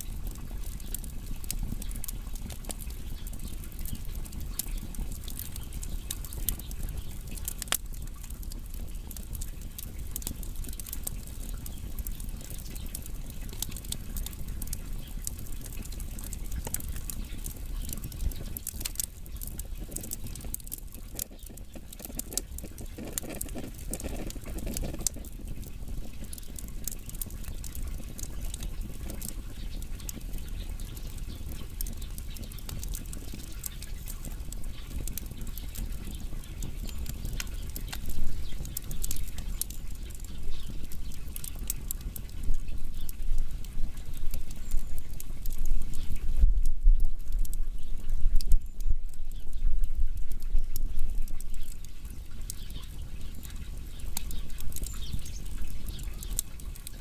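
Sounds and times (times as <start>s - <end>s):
fire popping: 0.0s - 57.0s
low rumble of flame: 0.0s - 57.0s
wood fire crackling: 0.0s - 57.0s.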